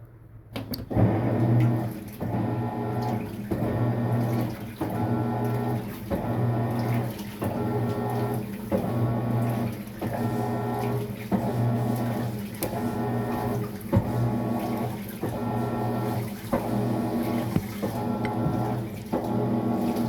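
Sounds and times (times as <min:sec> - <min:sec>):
washing machine motor humming: 0:00.6 - 0:20.0
water sloshing in tub: 0:00.8 - 0:20.0.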